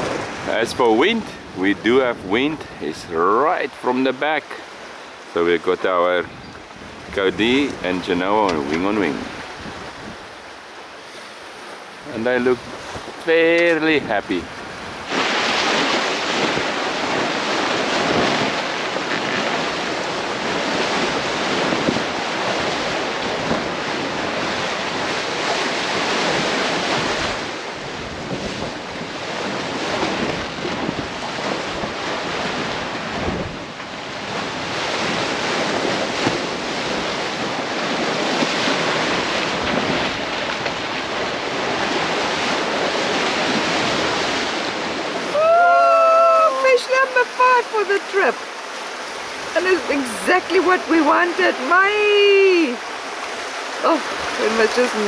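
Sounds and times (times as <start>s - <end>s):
wind buffeting microphone: 0.0s - 3.5s, 5.6s - 10.6s, 11.4s - 55.0s
water rushing along boat hulls: 0.0s - 55.0s.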